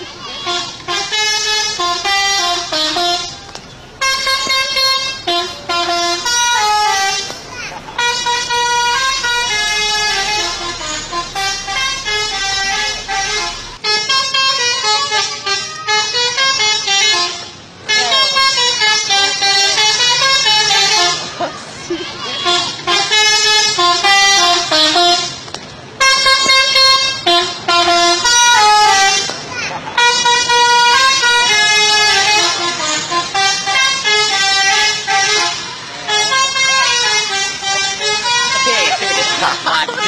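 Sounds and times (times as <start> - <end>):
multi-trumpet air horn tune: 0.0 - 3.4, 4.0 - 21.3, 22.3 - 25.4, 26.0 - 29.4, 30.0 - 40.0.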